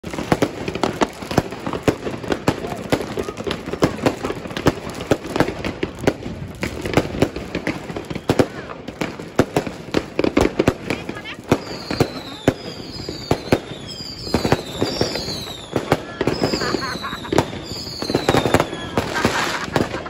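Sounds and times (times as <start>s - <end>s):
fireworks and firecrackers banging: 0.0s - 20.0s.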